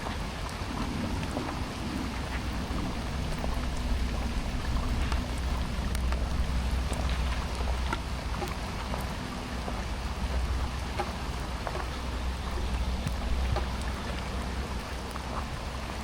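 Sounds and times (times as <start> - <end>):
low steady rumble: 0.0 - 16.0
rain falling: 0.0 - 16.0.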